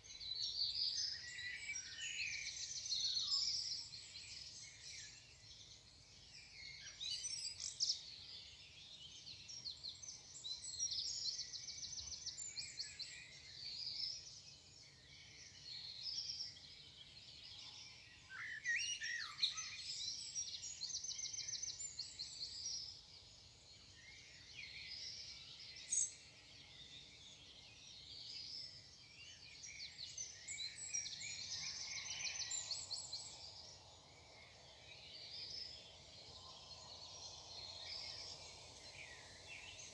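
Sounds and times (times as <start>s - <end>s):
songbirds chirping and singing: 0.3s - 39.9s.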